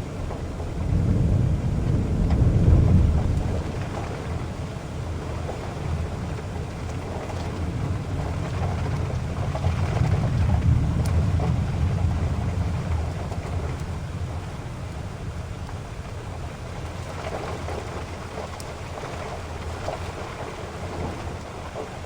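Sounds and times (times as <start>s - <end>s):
thunder rumbling: 0.0s - 21.4s
heavy rain falling: 0.0s - 22.0s.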